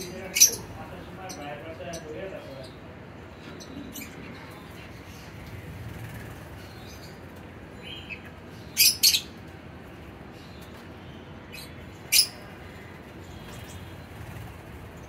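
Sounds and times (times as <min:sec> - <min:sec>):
birds chirping shrilly: 0:00.0 - 0:15.0.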